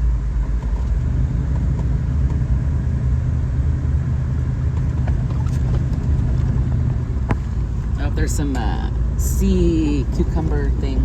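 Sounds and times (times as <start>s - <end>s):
tyres on road: 0.0s - 11.0s
vehicle engine rumble: 0.0s - 11.0s.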